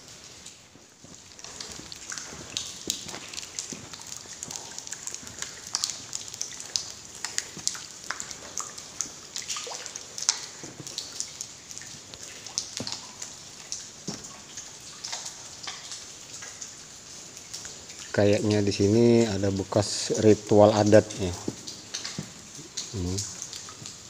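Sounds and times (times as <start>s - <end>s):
footsteps on wet stony floor: 0.0s - 15.4s, 18.7s - 24.0s
water dripping: 0.0s - 24.0s.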